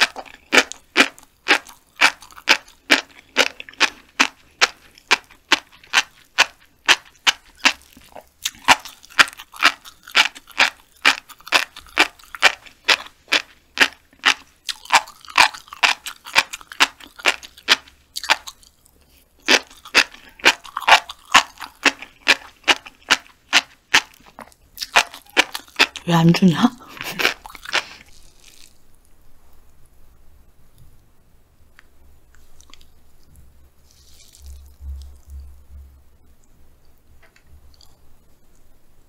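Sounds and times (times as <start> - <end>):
chewing crunchy fish roe: 0.0 - 29.8, 32.2 - 35.6, 37.6 - 38.7.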